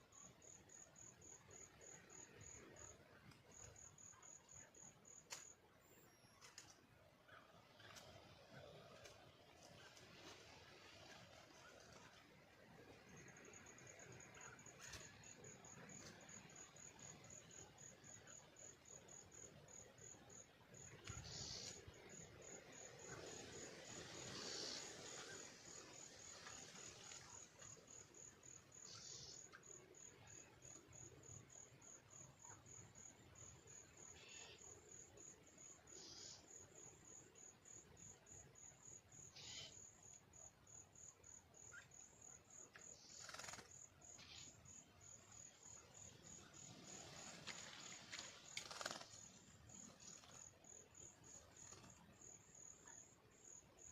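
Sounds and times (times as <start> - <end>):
faint cricket chirping: 0.0 - 53.9.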